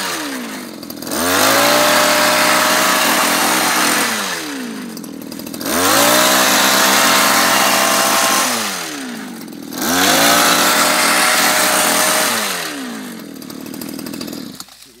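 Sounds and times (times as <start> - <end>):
blade shearing bushes: 0.0 - 15.0
small petrol engine revving: 0.0 - 15.0.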